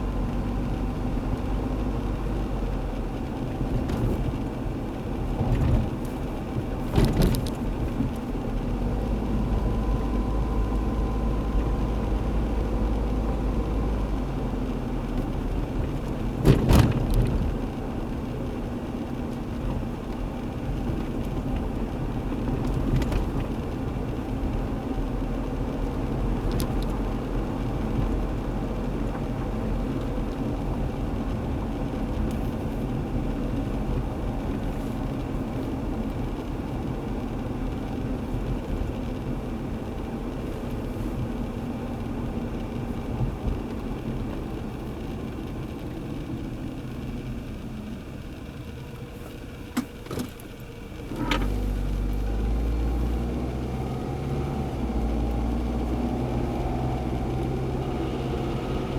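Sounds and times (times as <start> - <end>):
road noise: 0.0 - 58.9.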